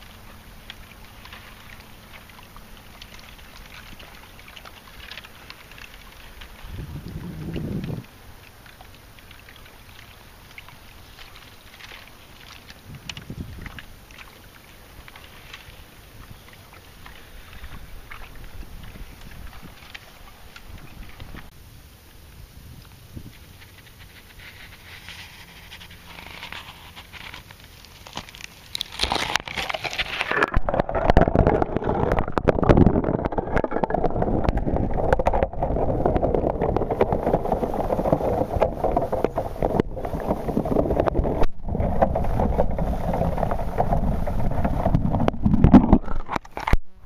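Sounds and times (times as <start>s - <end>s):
small ice crackles: 0.0s - 21.5s, 22.8s - 46.8s
muffled underwater rush: 0.0s - 27.3s, 29.9s - 47.0s.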